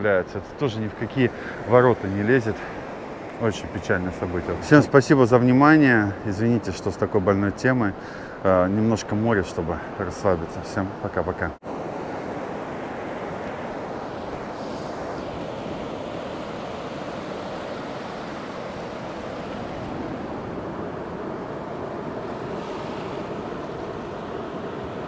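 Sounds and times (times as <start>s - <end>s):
waves washing over sand: 0.0s - 25.0s.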